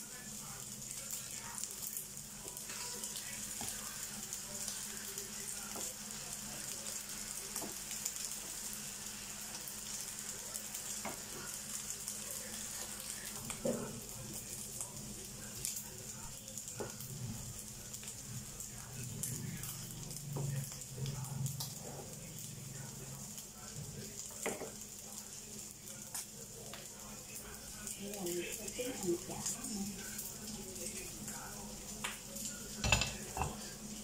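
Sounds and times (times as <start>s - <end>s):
rice sizzling in frying pan: 0.0s - 34.0s.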